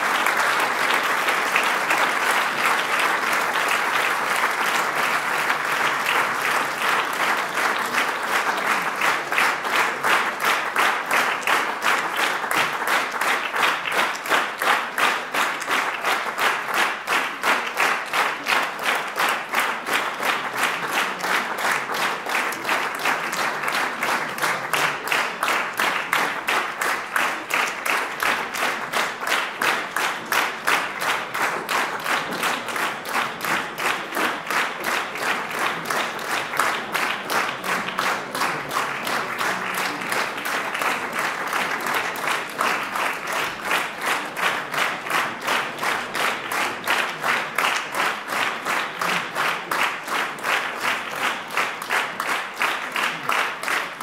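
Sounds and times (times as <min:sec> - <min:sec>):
audience applauding: 0:00.0 - 0:54.0
rhythmic clapping in unison: 0:00.0 - 0:54.0.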